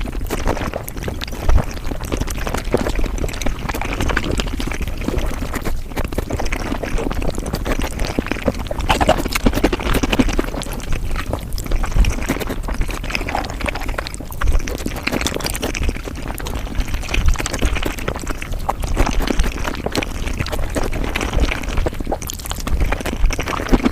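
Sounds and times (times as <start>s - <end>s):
sped-up chewing and smacking: 0.0s - 23.9s.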